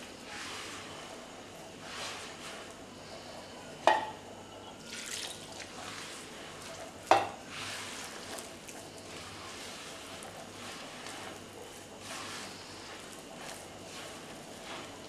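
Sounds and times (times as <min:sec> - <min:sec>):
hand kneading dough in bowl: 0:00.0 - 0:03.2, 0:05.1 - 0:15.0.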